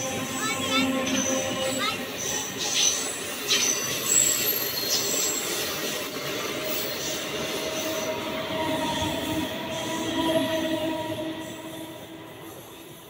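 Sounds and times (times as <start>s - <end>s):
train wheels running on rails: 0.0s - 13.0s
high-pitched wheel squeals: 0.3s - 12.1s.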